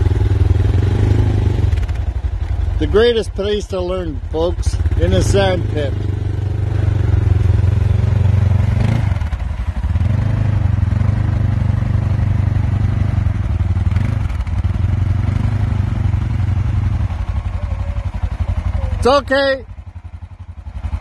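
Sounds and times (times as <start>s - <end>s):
atv engine idling: 0.0s - 21.0s.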